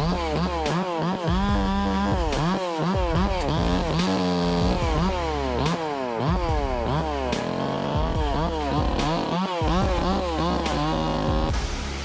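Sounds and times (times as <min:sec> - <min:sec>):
chainsaw engine revving: 0:00.0 - 0:11.6.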